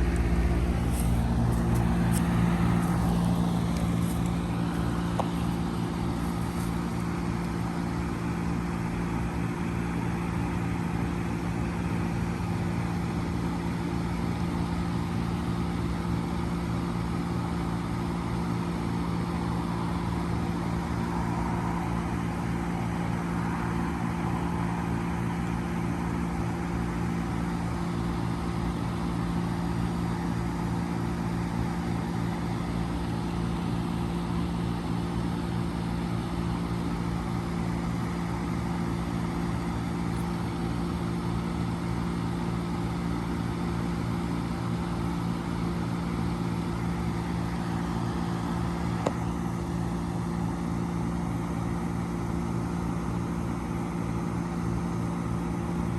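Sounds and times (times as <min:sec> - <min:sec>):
heat pump humming: 0:00.0 - 0:55.9.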